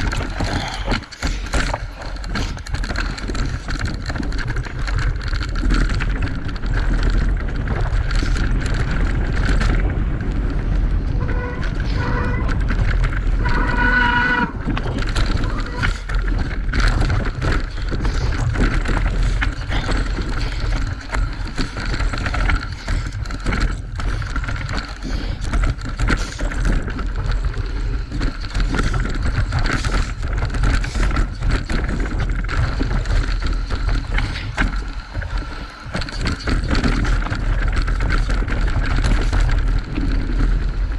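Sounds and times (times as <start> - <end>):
bike frame rattling and clicking: 0.0 - 40.9
wind buffeting microphone: 0.0 - 40.9.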